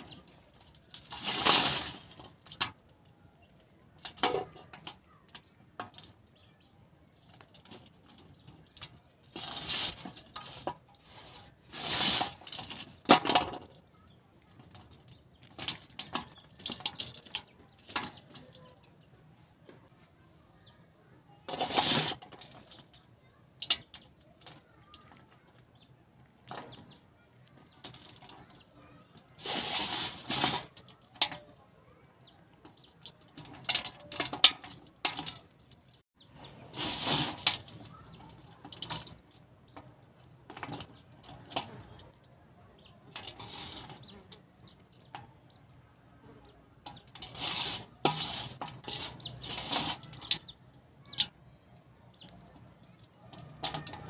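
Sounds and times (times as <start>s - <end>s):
clicks of falling clay bits: 0.0s - 6.5s, 7.1s - 19.1s, 21.4s - 36.0s, 36.7s - 45.5s, 46.4s - 51.4s, 52.1s - 54.0s.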